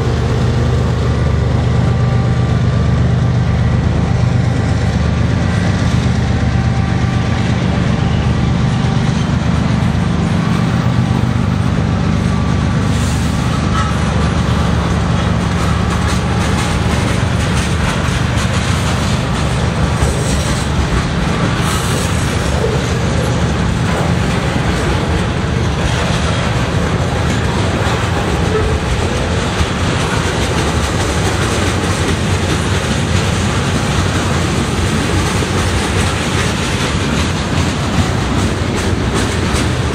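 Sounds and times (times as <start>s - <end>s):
freight train wheels rolling on rails: 0.0s - 39.9s.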